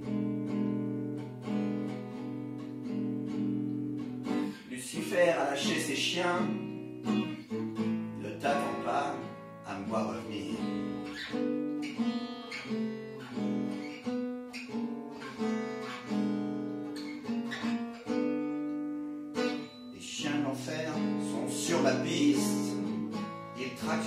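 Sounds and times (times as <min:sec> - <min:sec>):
acoustic guitar blues: 0:00.0 - 0:24.0.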